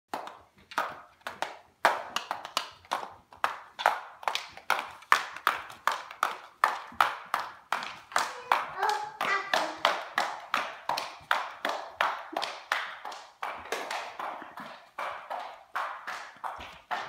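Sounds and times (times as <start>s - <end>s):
plastic heels clacking on wood floor: 0.1s - 17.0s.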